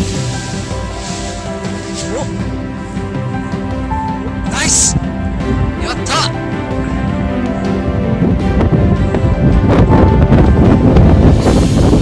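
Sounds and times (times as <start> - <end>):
background music with held tones: 0.0 - 12.0
wind buffeting microphone: 2.3 - 12.0.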